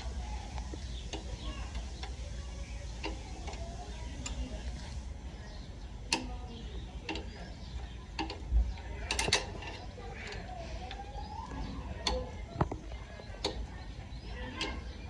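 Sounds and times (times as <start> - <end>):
faint bird chirps: 0.0 - 9.2, 9.9 - 15.0.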